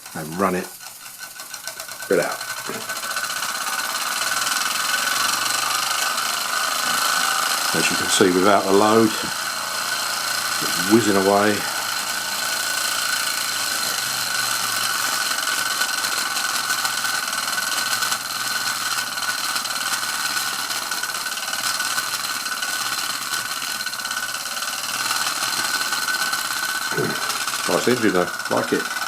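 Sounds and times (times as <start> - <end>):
toy steam engine running: 0.0 - 29.0.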